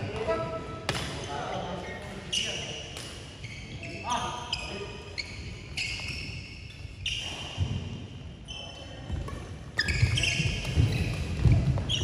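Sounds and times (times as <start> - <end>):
shoes squeaking on court floor: 0.0 - 12.0.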